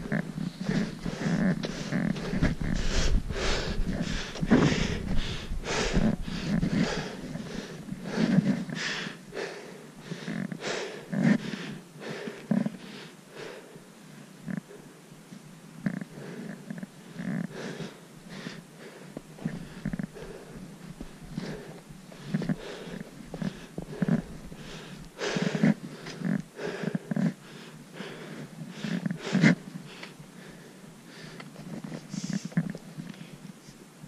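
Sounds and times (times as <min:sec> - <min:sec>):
hard breathing: 0:00.0 - 0:14.9, 0:15.9 - 0:33.5.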